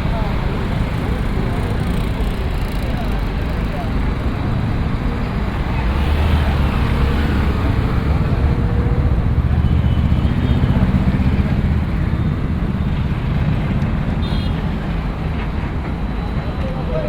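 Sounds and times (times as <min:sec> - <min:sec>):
engine rumbling: 0:00.0 - 0:14.1.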